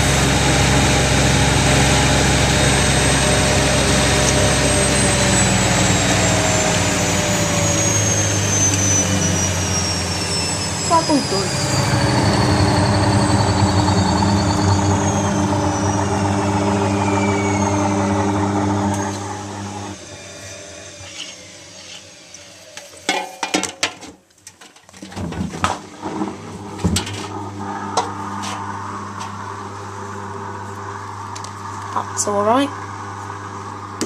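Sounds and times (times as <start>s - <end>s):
low hum: 0.0s - 20.7s, 26.1s - 34.0s
washing machine spin slowing: 0.0s - 23.1s, 25.7s - 34.0s.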